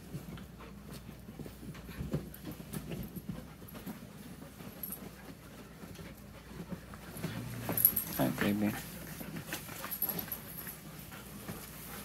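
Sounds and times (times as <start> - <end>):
paws thumping and scuffling on bedding: 0.0 - 12.0.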